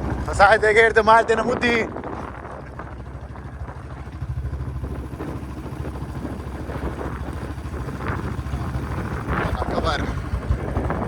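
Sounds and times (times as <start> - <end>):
motorcycle engine thumping: 0.0 - 11.0.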